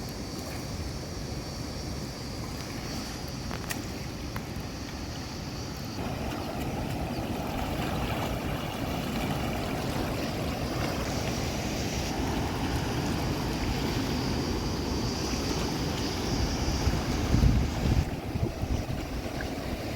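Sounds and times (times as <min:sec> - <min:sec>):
stream water flowing: 0:00.0 - 0:19.9.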